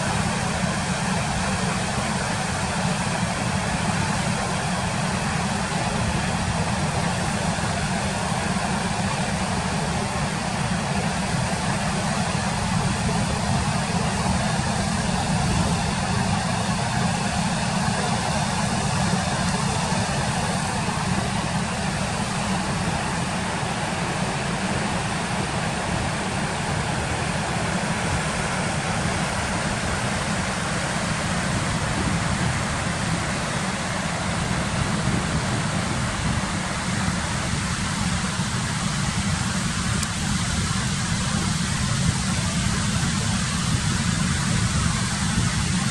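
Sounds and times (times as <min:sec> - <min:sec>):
waterfall and rapids rushing: 0:00.0 - 0:45.9.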